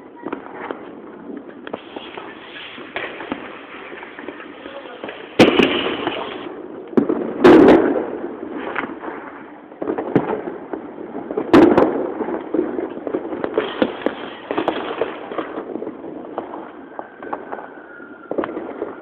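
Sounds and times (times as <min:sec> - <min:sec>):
firework pops and crackles: 0:00.0 - 0:19.0
loud firework bangs: 0:00.0 - 0:19.0.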